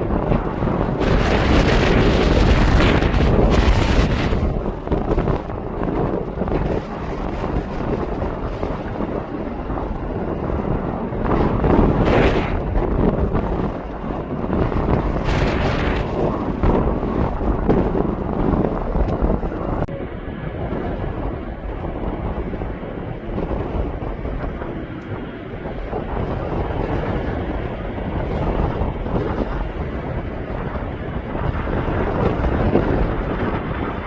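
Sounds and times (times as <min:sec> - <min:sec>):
gusty wind buffeting microphone: 0:00.0 - 0:34.0.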